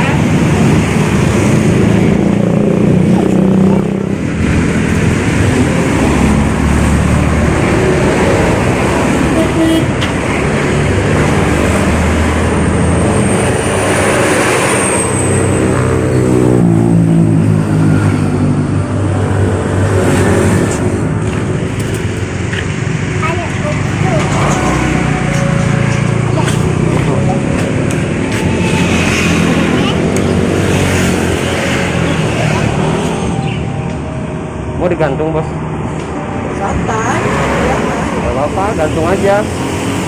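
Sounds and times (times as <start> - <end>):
traffic noise: 0.0 - 40.0.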